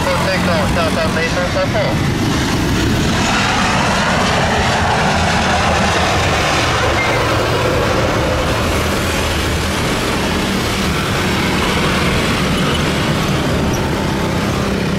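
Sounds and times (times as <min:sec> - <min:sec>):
loud steady engine noise: 0:00.0 - 0:14.9.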